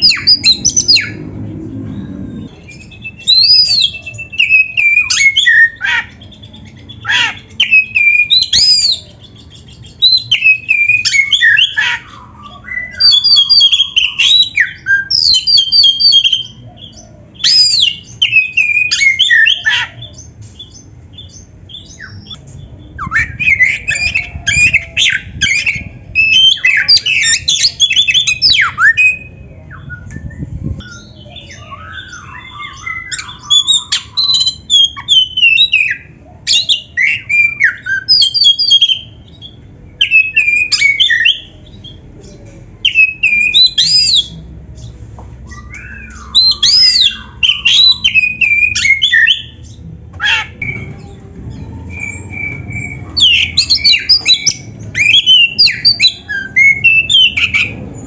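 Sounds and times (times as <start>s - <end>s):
bird singing whistles and chirps: 1.9s - 42.0s, 42.8s - 44.4s, 45.5s - 58.0s.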